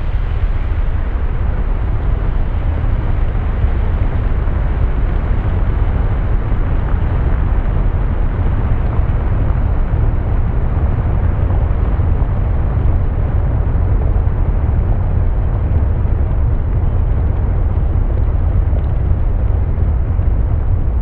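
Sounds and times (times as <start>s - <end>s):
deep rumble: 0.0s - 21.0s.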